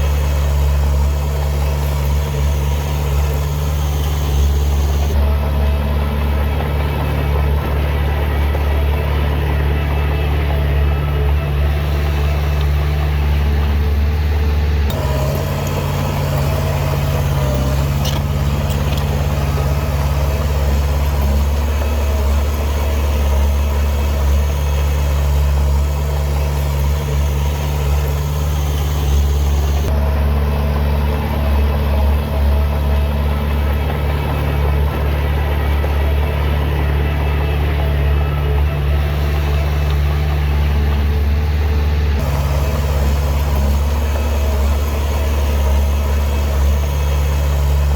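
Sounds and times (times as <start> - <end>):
diesel engine deep drone: 0.0 - 47.9.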